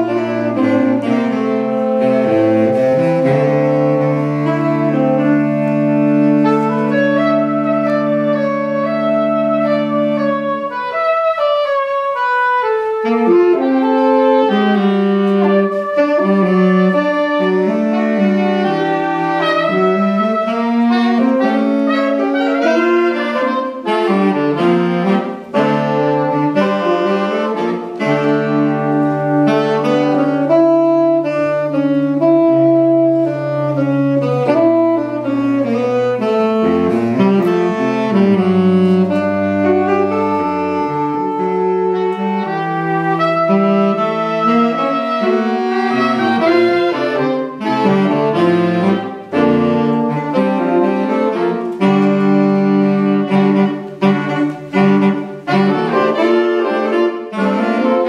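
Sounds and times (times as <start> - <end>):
baritone saxophone low notes: 0.0 - 58.0
saxophone quartet playing jazz: 0.0 - 58.0.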